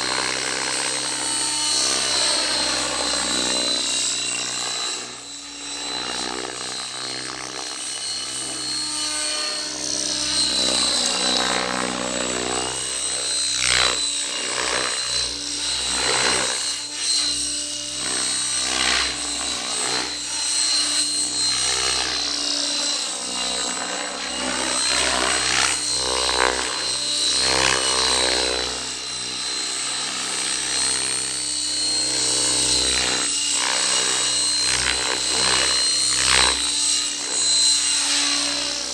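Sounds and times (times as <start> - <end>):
model helicopter whining: 0.0 - 38.9.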